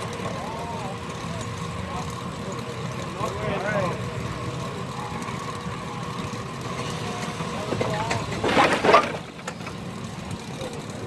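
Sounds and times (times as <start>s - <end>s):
faint voices: 0.0s - 11.0s
steam engine running sawmill: 0.0s - 11.0s.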